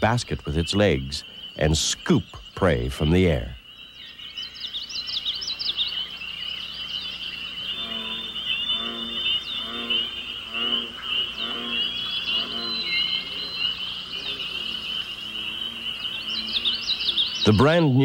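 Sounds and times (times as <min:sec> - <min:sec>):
bird chirps: 0:00.0 - 0:18.0
frog croaking: 0:00.0 - 0:18.0
high chirping chorus: 0:00.0 - 0:18.0.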